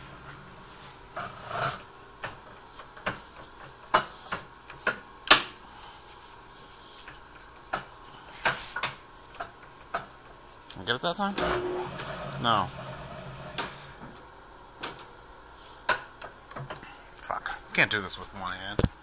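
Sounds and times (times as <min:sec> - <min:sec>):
steady hum of machine drive: 0:00.0 - 0:19.0.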